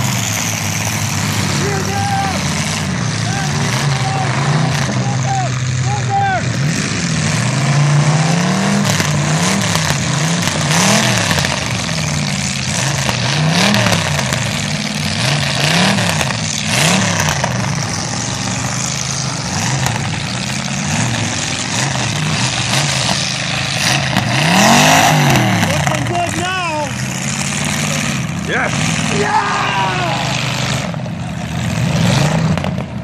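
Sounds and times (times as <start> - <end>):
car engines revving hard: 0.0 - 33.0.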